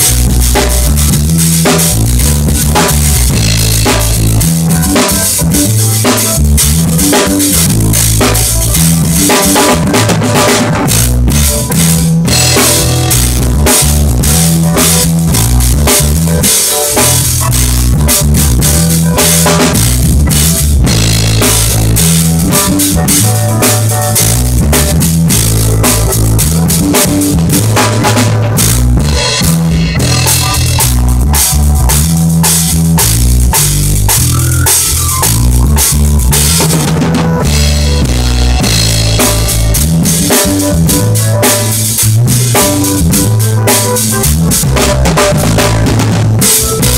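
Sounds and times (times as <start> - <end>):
drum kit playing: 0.0 - 46.9
music with bass line: 0.0 - 46.9.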